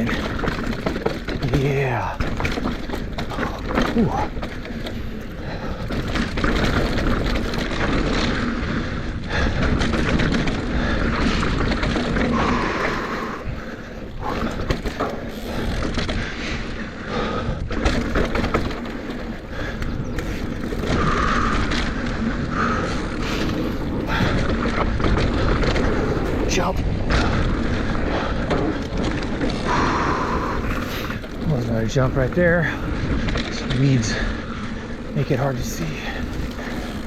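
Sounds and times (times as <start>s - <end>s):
tyres crunching over dirt and rock: 0.0s - 16.3s, 17.7s - 37.0s
bike chain and frame rattling: 0.0s - 37.0s
wind rumble on microphone: 0.0s - 37.0s.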